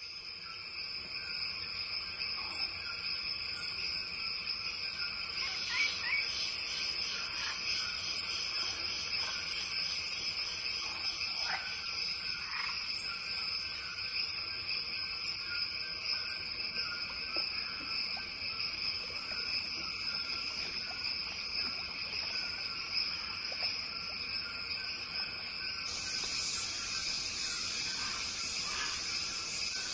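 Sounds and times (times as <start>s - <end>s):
insects trilling: 0.0s - 29.9s
short low insect calls: 0.0s - 29.9s
pulsing shrill insect call: 1.2s - 29.9s.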